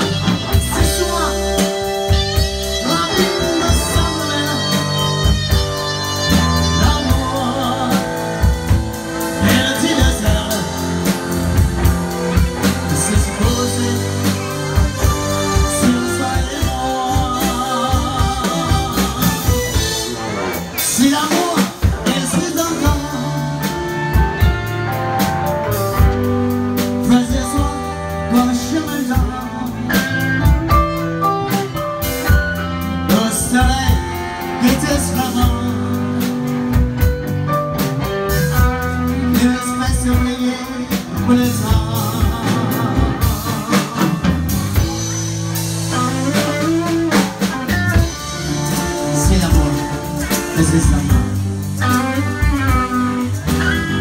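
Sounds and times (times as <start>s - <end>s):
man singing into a microphone: 0.0s - 24.2s, 26.8s - 36.8s, 38.3s - 54.0s
bass guitar: 0.0s - 54.0s
drum kit: 0.0s - 54.0s
electric guitar: 0.0s - 54.0s.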